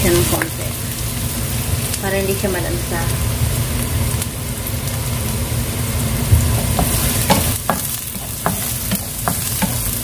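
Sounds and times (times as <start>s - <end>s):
onion and garlic sizzling in oil: 0.0s - 10.0s.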